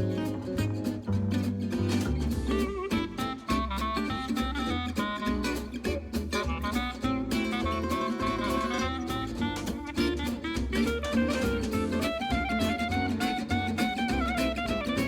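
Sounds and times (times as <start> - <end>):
bass beat: 0.0 - 15.0
guitar: 0.0 - 15.0
upbeat instrumental jazz: 0.0 - 15.0.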